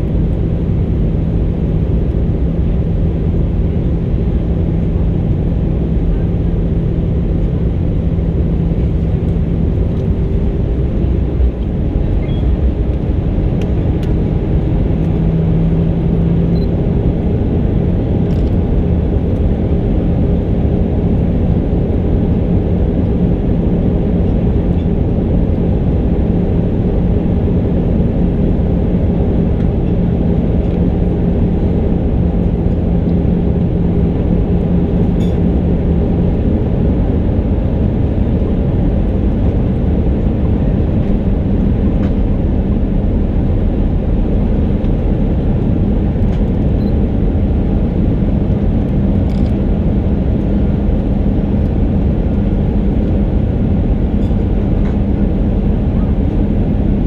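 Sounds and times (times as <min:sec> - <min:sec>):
aircraft cabin engine roar: 0:00.0 - 0:57.0.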